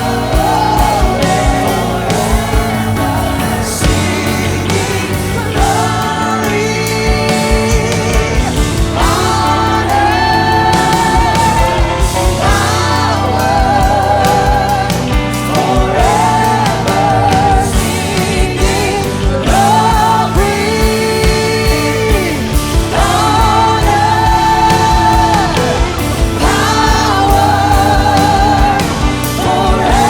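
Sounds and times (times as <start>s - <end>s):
band with steady drum beat: 0.0s - 30.0s
person singing with vibrato: 0.0s - 30.0s.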